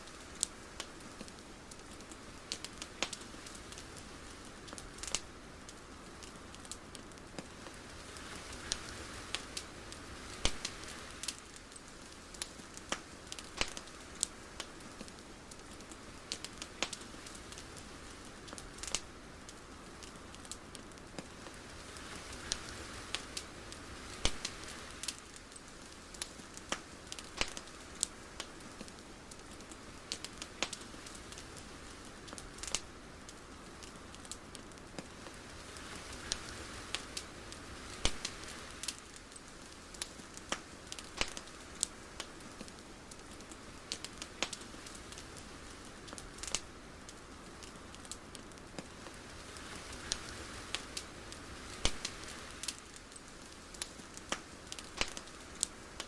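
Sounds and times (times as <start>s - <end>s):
sharp crackles and pops: 0.0s - 56.0s
soft steady hiss: 0.0s - 56.0s.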